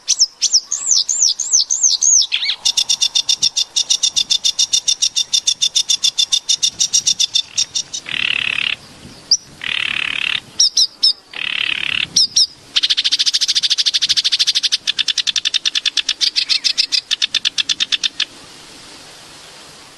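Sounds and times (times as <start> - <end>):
harsh buzzy bird calls: 0.0 - 18.3
small bird trilling: 0.0 - 18.3.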